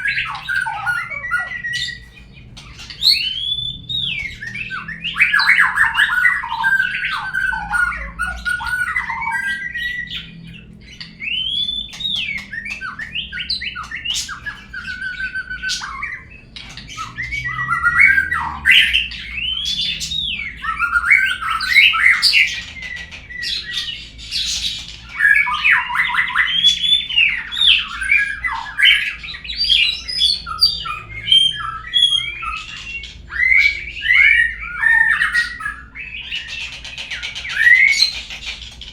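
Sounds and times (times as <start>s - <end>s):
songbird singing varied song: 0.0s - 38.4s.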